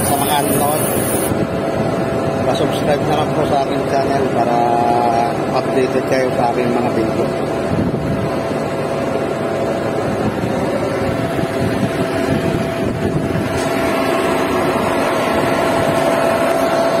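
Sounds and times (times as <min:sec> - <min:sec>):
machine whine: 0:00.0 - 0:05.7, 0:06.5 - 0:17.0
concrete pump machine drone: 0:00.0 - 0:17.0.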